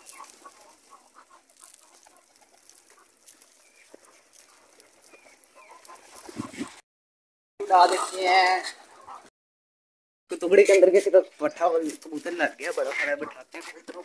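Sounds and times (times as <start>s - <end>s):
chickens clucking: 0.0s - 6.8s, 7.6s - 9.3s, 10.4s - 14.0s.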